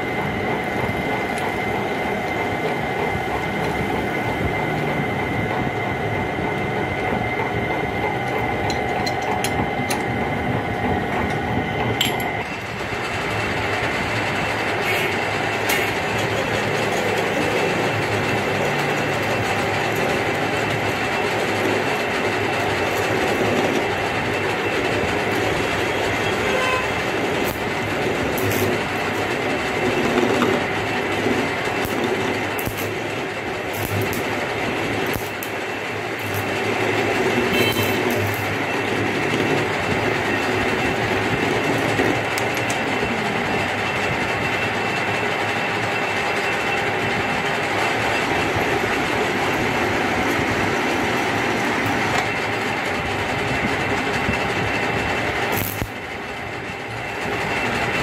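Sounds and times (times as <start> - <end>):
metal lathe droning: 0.0 - 58.0.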